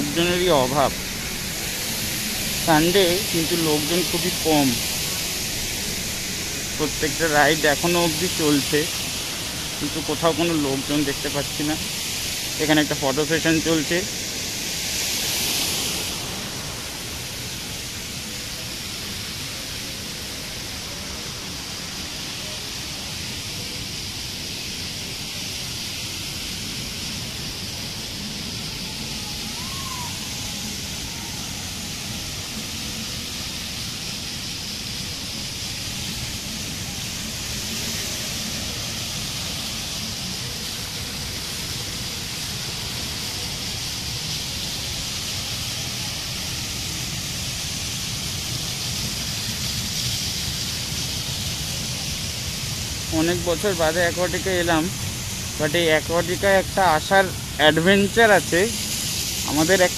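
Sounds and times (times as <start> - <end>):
fountain spray falling onto pool: 0.0 - 59.9.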